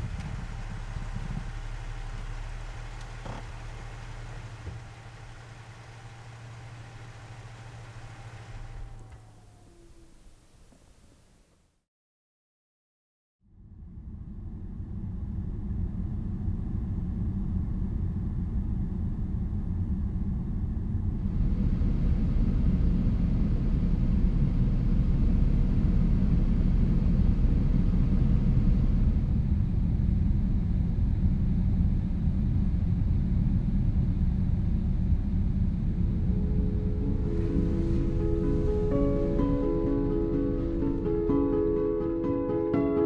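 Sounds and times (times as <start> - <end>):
vehicle engine and tyres rumbling: 0.0 - 11.5, 13.7 - 42.4.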